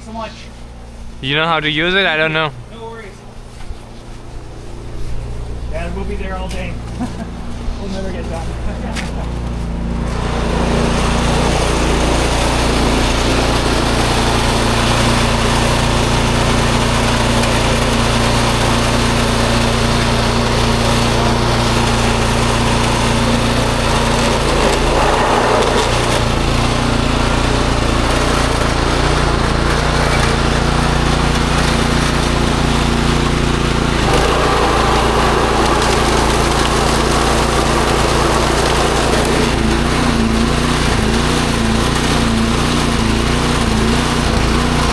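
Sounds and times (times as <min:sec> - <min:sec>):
snowblower engine running: 0:08.3 - 0:44.9.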